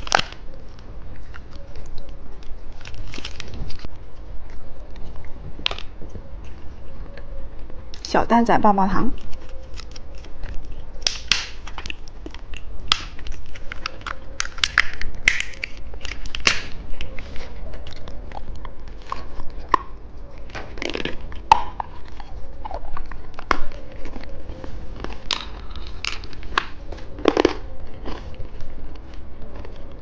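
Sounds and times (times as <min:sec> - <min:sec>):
crunching hard candy: 0:00.0 - 0:06.6, 0:09.1 - 0:30.0.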